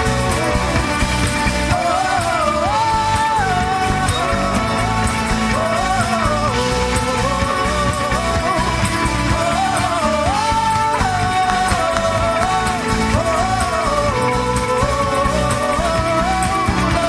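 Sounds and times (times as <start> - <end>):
live band playing: 0.0 - 17.0
sliding lead melody: 0.0 - 17.0.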